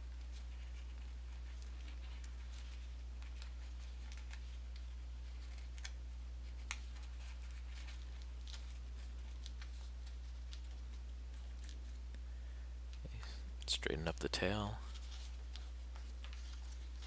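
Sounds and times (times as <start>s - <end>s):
low electrical hum: 0.0s - 17.0s
paper folding and creasing: 0.1s - 12.0s, 14.9s - 17.0s.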